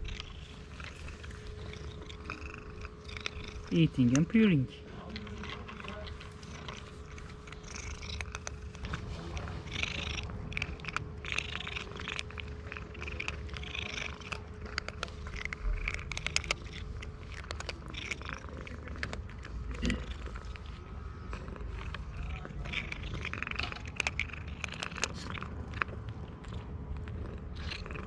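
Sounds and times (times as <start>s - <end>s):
cat purring: 0.0s - 28.0s
crunching of dry kibble: 0.0s - 28.0s.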